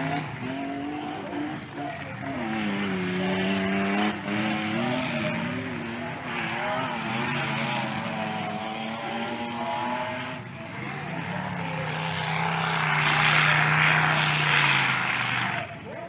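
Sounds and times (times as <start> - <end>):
race truck engines revving: 0.0 - 16.0.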